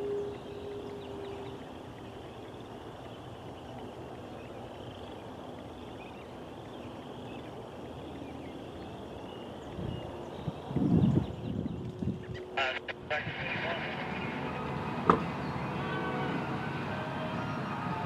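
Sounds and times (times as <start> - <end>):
outdoor background rumble: 0.0 - 18.0.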